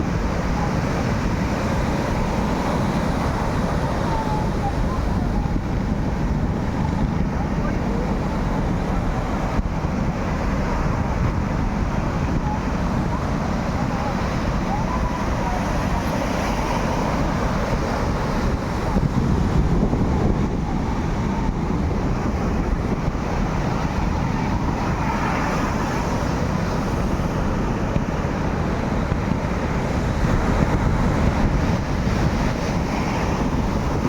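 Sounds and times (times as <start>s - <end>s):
surf: 0.0s - 34.0s
wind buffeting microphone: 0.0s - 34.0s.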